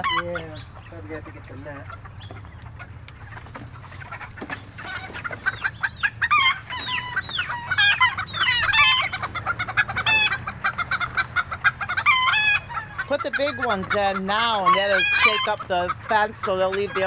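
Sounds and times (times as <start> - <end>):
chickens clucking and squawking: 0.0 - 17.0.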